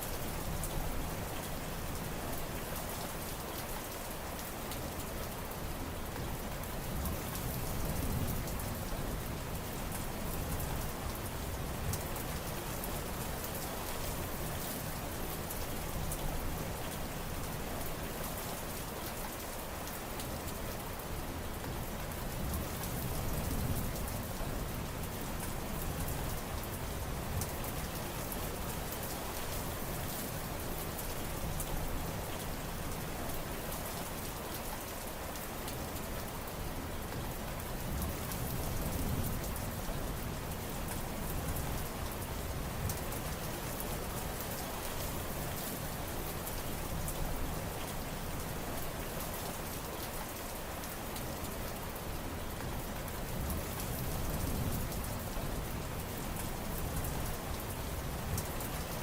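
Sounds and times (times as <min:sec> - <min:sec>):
rain falling on surfaces: 0:00.0 - 0:59.0.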